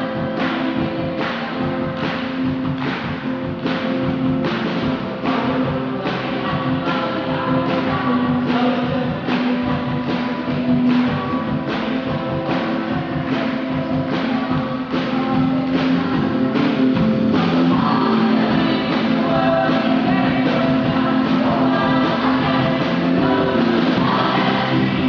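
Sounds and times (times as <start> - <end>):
drum beat: 0.0 - 25.0
people singing: 0.0 - 25.0
rock band playing: 0.0 - 25.0.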